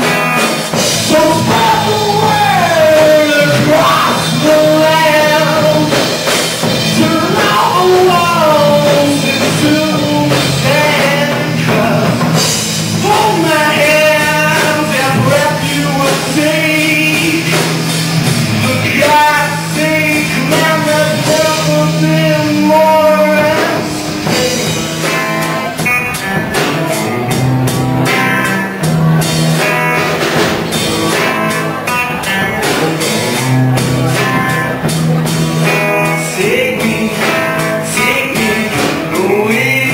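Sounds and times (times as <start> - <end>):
drum kit: 0.0 - 39.9
electric guitar: 0.0 - 39.9
person singing: 0.0 - 39.9.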